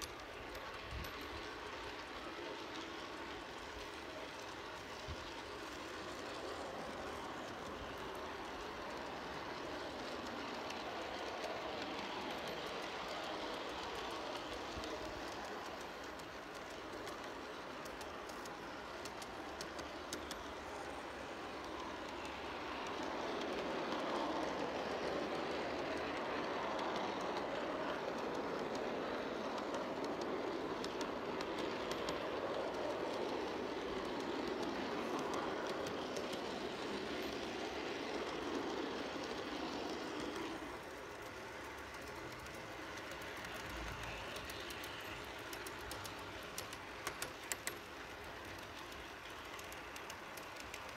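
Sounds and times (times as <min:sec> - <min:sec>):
model train wheels rattling: 0:00.0 - 0:50.9.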